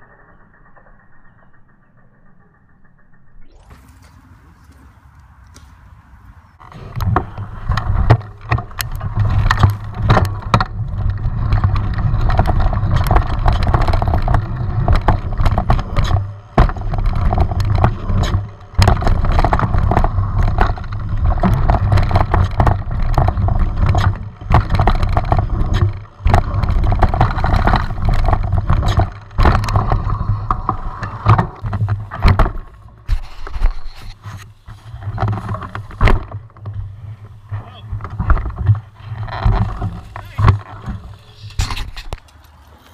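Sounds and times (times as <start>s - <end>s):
bike tyre rumble: 0.0s - 42.9s
bike rattling over bumps: 6.4s - 42.9s.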